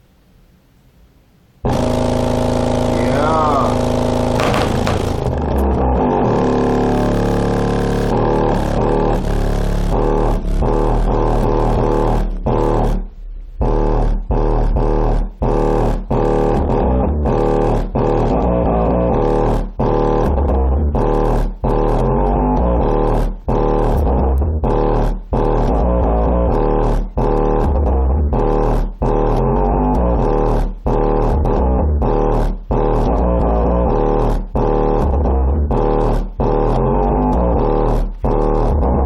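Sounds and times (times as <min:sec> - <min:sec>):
song with heavy bass: 0:02.5 - 0:39.0.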